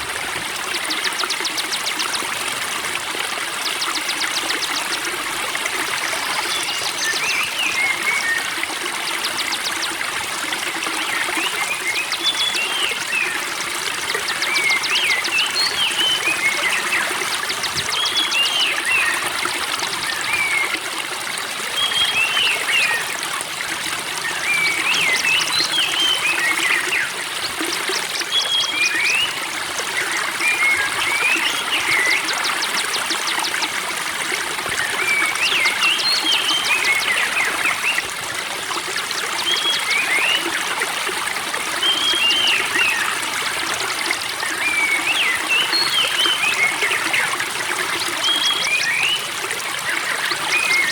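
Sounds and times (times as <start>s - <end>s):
spring water trickling: 0.0s - 50.9s.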